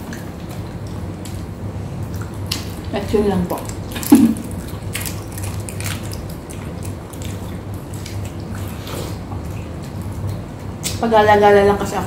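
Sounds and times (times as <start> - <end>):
wet chewing: 0.0 - 11.0
low steady hum: 0.0 - 12.0.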